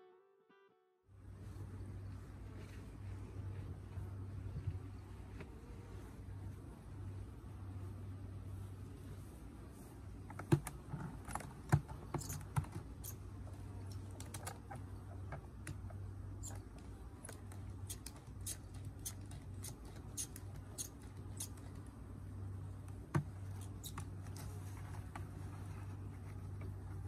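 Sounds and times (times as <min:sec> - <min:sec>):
steady low hum: 0:01.1 - 0:27.0.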